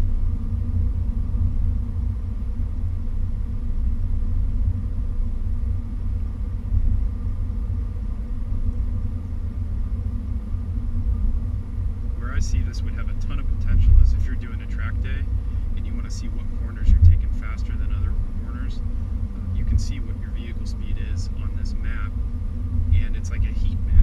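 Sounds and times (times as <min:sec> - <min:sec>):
car engine and road noise: 0:00.0 - 0:24.0
faint steady tones: 0:00.0 - 0:24.0.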